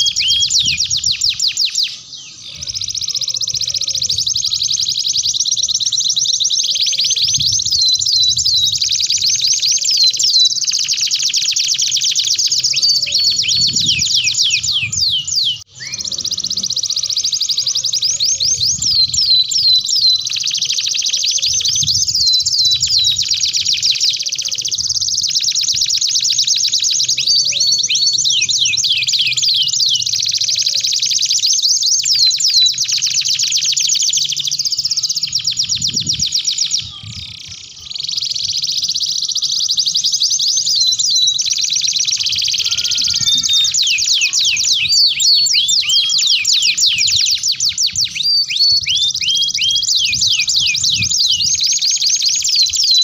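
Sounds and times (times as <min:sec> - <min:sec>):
canaries singing: 0:00.0 - 0:53.0.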